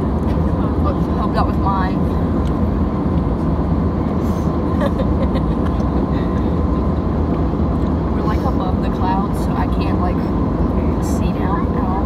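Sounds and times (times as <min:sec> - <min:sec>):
jet airliner cabin noise: 0:00.0 - 0:12.0.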